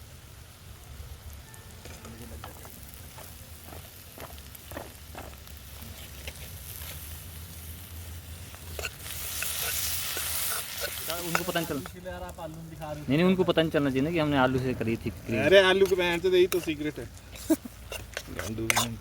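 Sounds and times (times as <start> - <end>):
hot oil sizzling in a pan: 0.0 - 14.5, 15.1 - 19.0.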